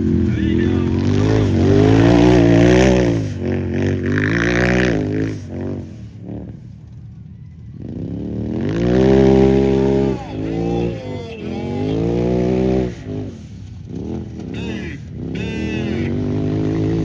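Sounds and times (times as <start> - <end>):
race engine revving hard: 0.0 - 6.6, 8.0 - 17.0.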